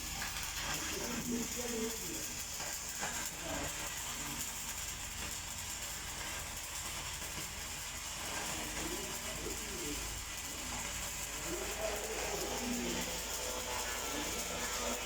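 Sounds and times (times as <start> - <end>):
machinery hiss and low hum: 0.0 - 15.0.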